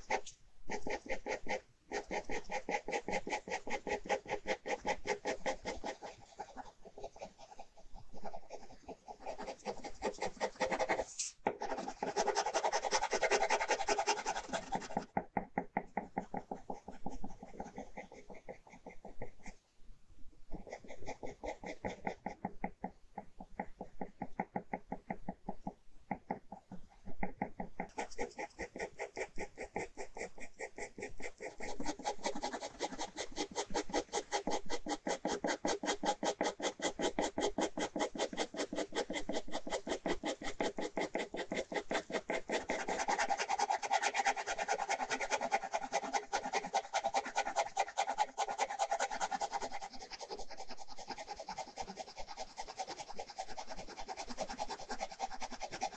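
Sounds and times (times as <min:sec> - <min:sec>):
ballpoint pen scratching on paper: 0:00.0 - 0:19.6, 0:20.4 - 0:55.9.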